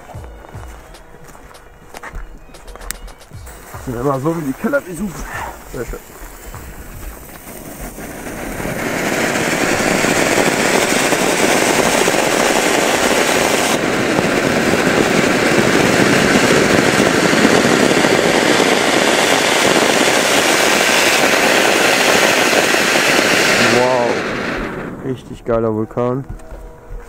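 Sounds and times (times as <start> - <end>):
firework fountain hissing: 2.6 - 25.2.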